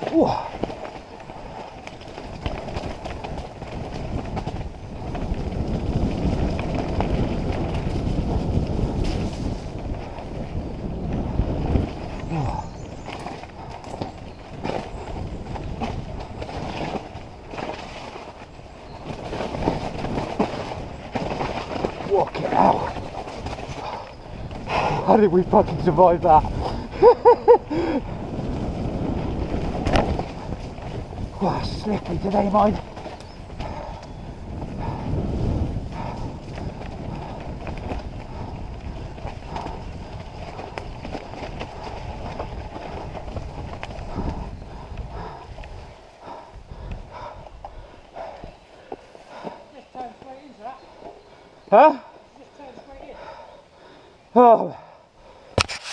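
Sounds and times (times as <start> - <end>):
bike rattling and knocking: 0.0 - 50.5
bike tyres rumbling over dirt: 0.0 - 55.9.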